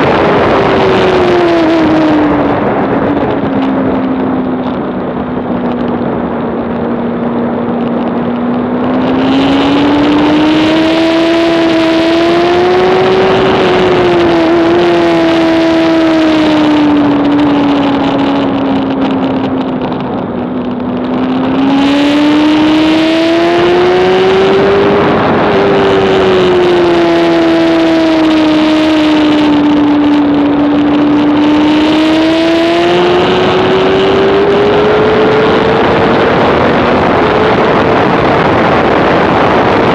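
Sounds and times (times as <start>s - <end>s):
motorcycle engine revving high: 0.0s - 39.9s
wind rushing over microphone: 0.0s - 39.9s.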